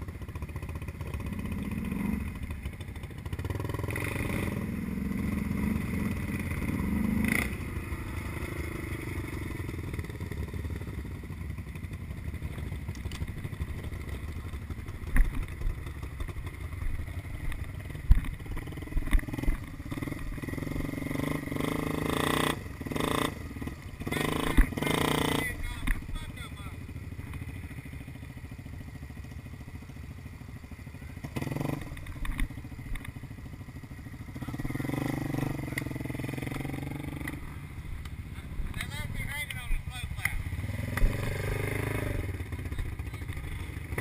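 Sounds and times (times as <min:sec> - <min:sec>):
atv engine running: 0:00.0 - 0:44.0.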